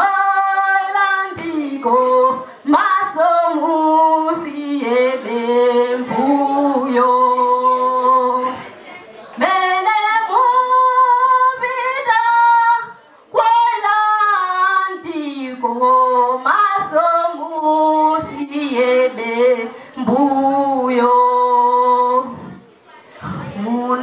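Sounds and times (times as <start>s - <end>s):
woman singing into a microphone: 0.0s - 8.7s, 9.4s - 22.6s, 23.2s - 24.0s.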